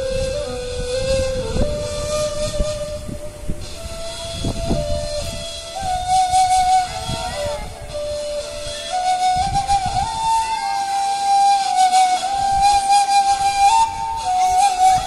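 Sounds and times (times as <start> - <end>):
reed flute solo melody: 0.0 - 15.0.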